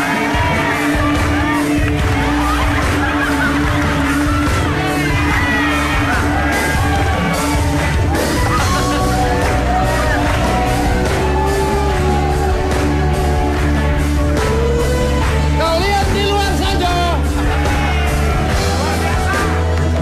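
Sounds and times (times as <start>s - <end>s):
loud band backing track: 0.0s - 20.0s
performers yelling: 0.0s - 20.0s.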